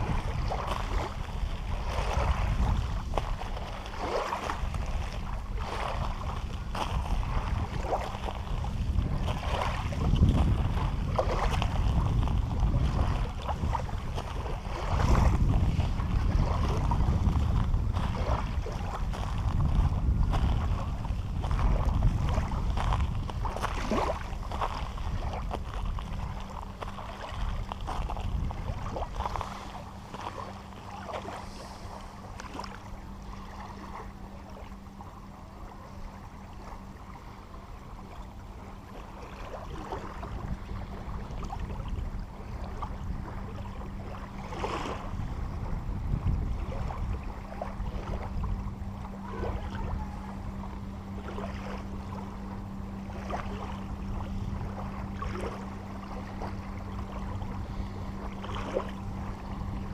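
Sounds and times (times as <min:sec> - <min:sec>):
low rumble: 0:00.0 - 0:59.9
steady low hum: 0:00.0 - 0:59.9
water: 0:00.0 - 0:59.9
wind: 0:00.0 - 0:59.9.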